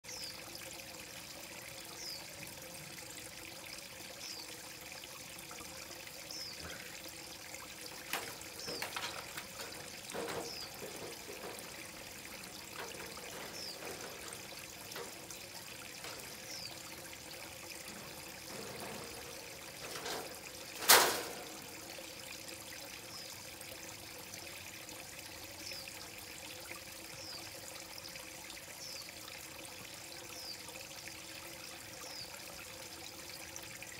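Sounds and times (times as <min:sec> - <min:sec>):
pond water trickling: 0:00.0 - 0:33.9.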